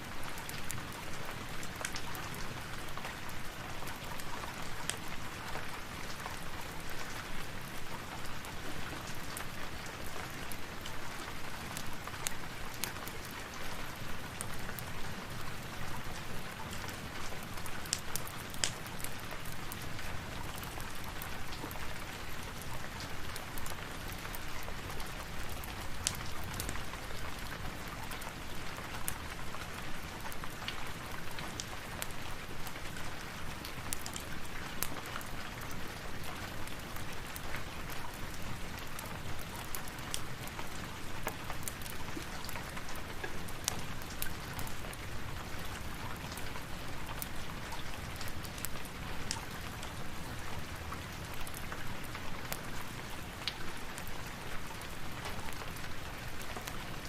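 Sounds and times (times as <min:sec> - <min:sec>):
steady rain hiss: 0:00.0 - 0:57.0
sharp drips and ticks: 0:00.3 - 0:57.0.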